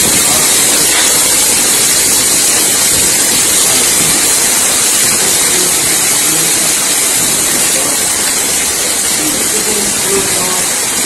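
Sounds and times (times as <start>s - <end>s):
heavy rain and hail: 0.0s - 11.0s.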